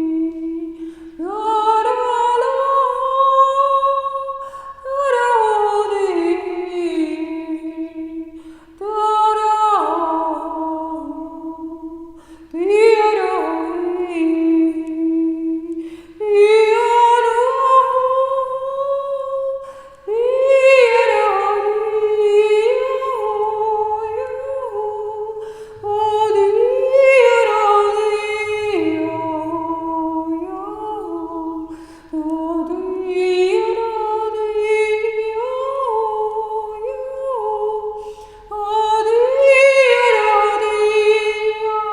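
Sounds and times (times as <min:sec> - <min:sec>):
woman singing wordlessly: 0:00.0 - 0:41.9.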